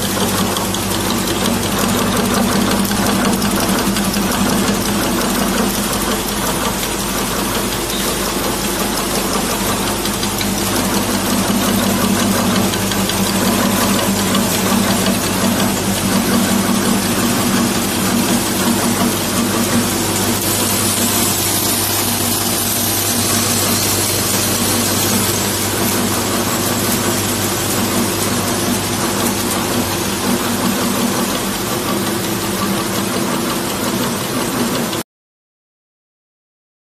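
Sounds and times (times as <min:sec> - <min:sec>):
machine humming: 0:00.0 - 0:34.9
mechanical clatter: 0:00.0 - 0:35.0.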